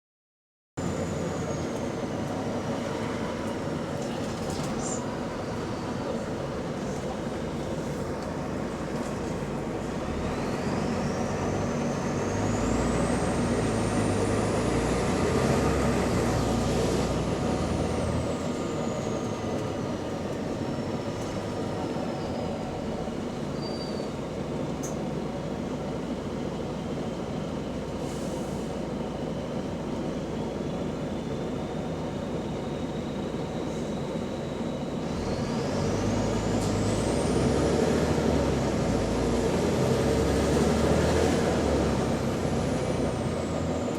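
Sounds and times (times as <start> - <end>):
bus engine pulling under load: 0.8 - 43.9
high engine whine: 0.8 - 43.9.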